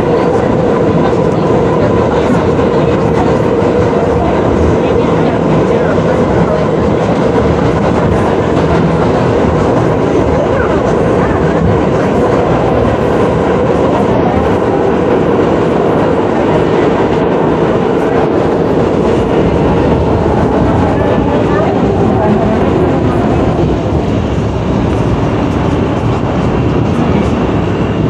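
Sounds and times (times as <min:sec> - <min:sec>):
subway car humming: 0:00.0 - 0:28.0
subway car wheels on rails: 0:00.0 - 0:28.0.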